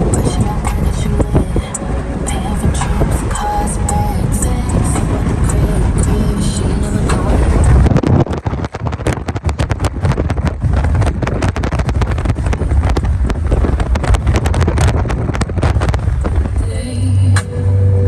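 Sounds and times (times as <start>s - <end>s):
wind buffeting microphone: 0.0s - 17.4s.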